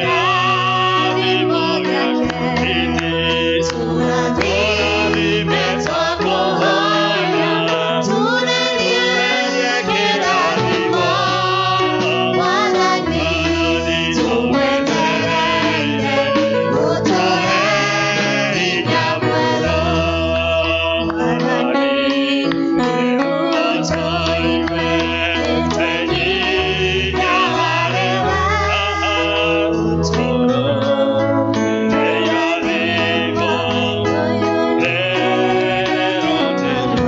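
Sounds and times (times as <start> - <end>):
group singing a hymn: 0.0 - 37.0.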